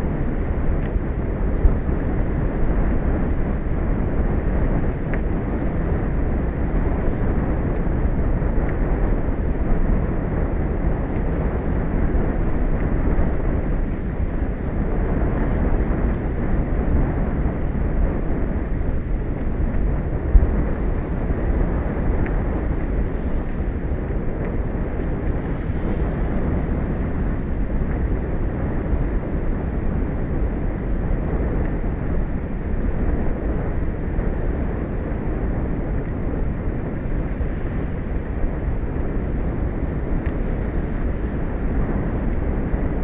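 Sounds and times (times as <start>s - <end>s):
open sea: 0.0s - 43.0s
wind buffeting microphone: 0.0s - 43.0s.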